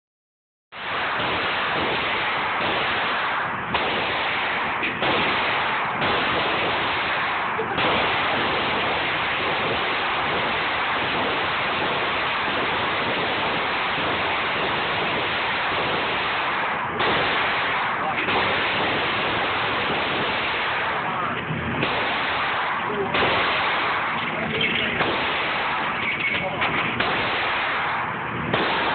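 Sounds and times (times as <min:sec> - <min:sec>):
gunshots: 0:00.7 - 0:28.9
steady rushing noise: 0:00.8 - 0:28.9.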